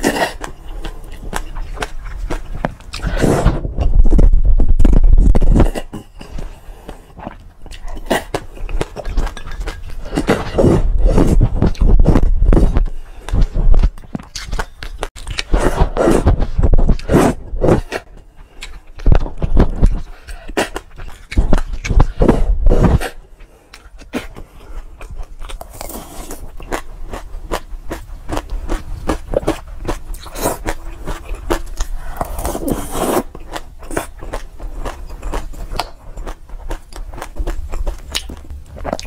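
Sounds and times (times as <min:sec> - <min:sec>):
crunchy chewing of seeds: 0:00.0 - 0:39.0.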